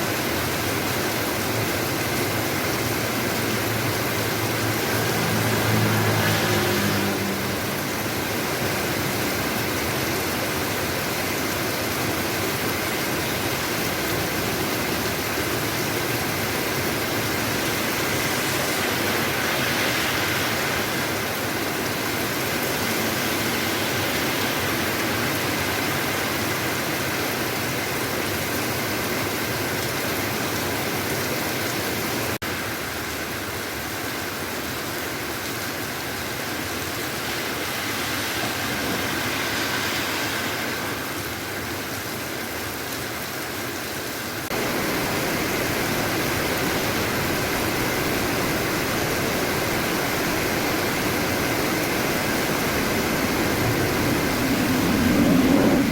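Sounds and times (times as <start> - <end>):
street traffic noise: 0.0 - 55.9.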